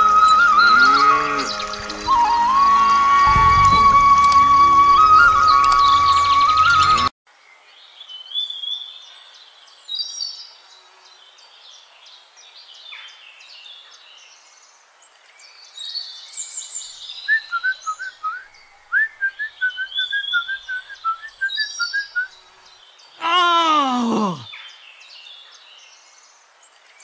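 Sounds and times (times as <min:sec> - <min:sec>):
songbirds chirping and whistling: 0:00.0 - 0:07.1, 0:07.9 - 0:14.8, 0:15.4 - 0:23.2.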